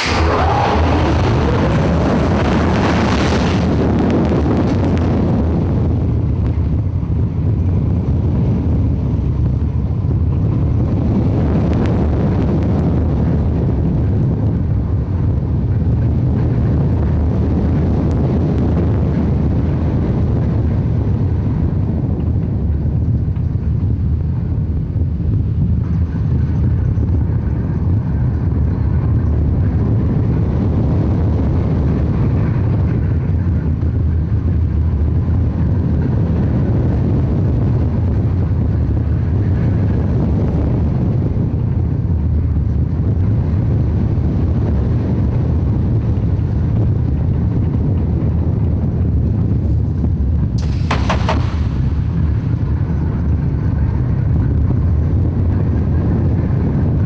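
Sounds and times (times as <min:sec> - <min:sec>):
roller coaster wheels rumbling: 0:00.0 - 0:57.0
wind buffeting microphone: 0:00.0 - 0:57.0.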